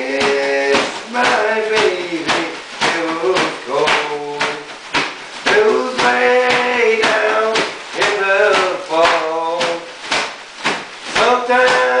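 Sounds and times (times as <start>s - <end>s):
man singing: 0.0s - 10.1s, 11.1s - 12.0s
plastic bag crinkling rhythmically: 0.0s - 12.0s.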